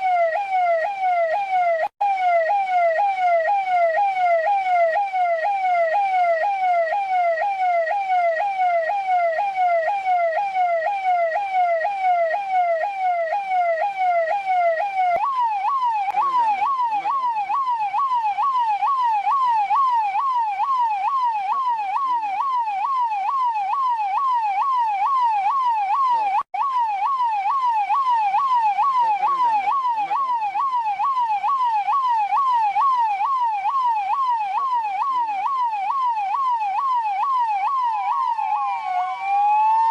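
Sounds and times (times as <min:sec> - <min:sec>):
police car siren sweeping: 0:00.0 - 0:39.9.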